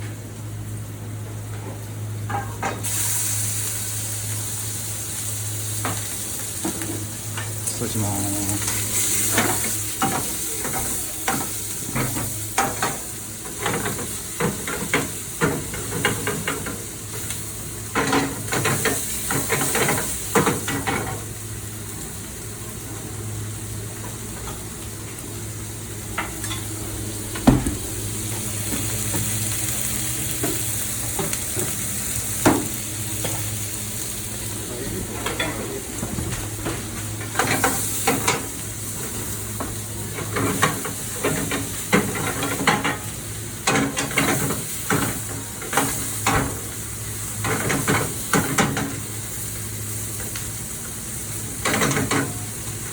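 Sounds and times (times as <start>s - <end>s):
food sizzling in a pan: 2.3s - 52.9s.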